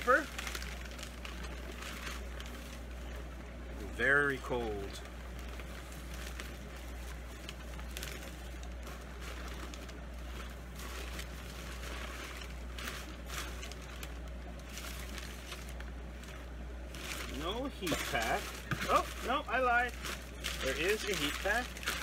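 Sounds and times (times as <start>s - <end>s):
packing paper rustling: 0.0s - 22.0s
steady low hum: 0.0s - 22.0s.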